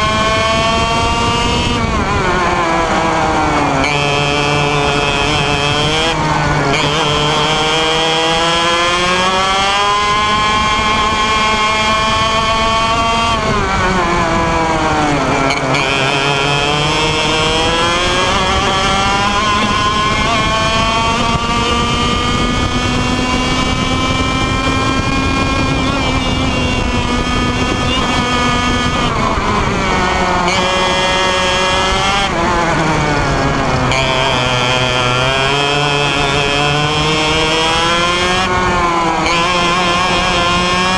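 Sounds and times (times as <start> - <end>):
kart engine revving: 0.0 - 40.9.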